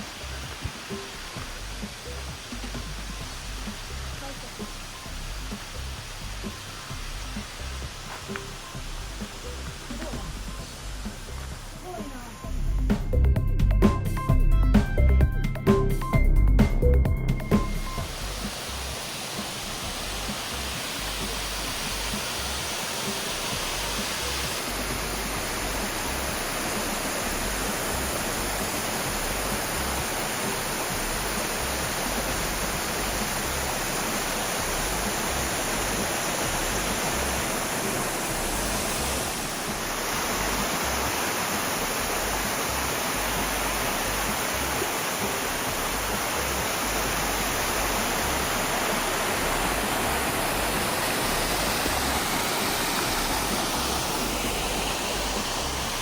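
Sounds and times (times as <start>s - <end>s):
waterfall rushing: 0.0s - 13.2s, 17.6s - 56.0s.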